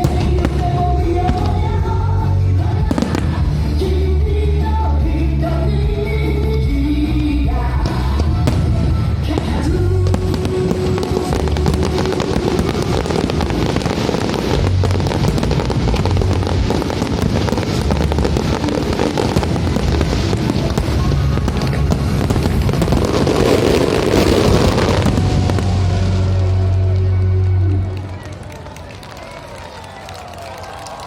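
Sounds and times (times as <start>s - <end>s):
fireworks crackling and banging: 0.0s - 4.8s, 7.4s - 31.0s
music playing: 0.0s - 28.6s.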